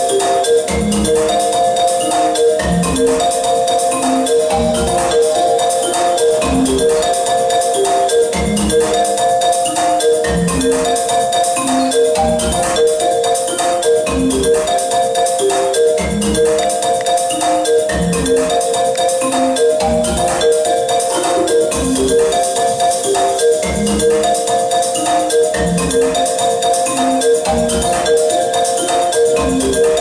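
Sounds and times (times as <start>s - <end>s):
fast ticking percussion: 0.0s - 30.0s
struck pitched melody: 0.0s - 30.0s.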